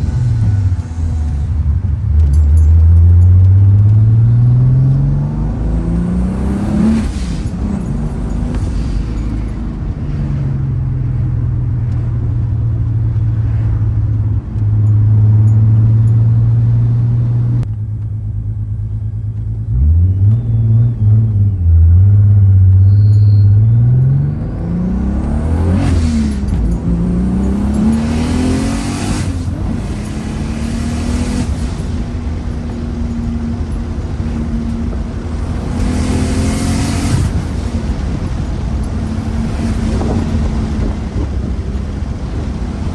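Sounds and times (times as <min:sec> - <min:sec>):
car engine and exhaust revving: 0:00.0 - 0:42.9.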